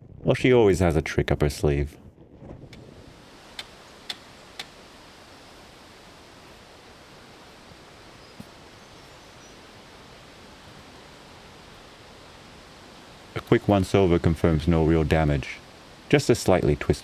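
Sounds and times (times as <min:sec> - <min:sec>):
outdoor hiss: 0:02.6 - 0:17.0.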